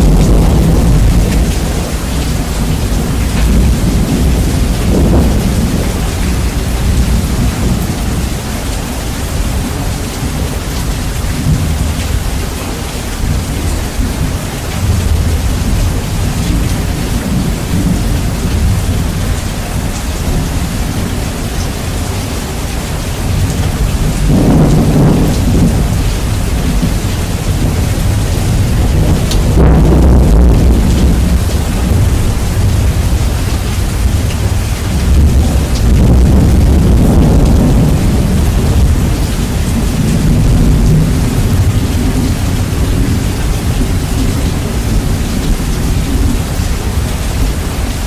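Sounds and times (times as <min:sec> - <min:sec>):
deep rolling thunder: 0:00.0 - 0:48.0
heavy rain hissing: 0:00.0 - 0:48.0.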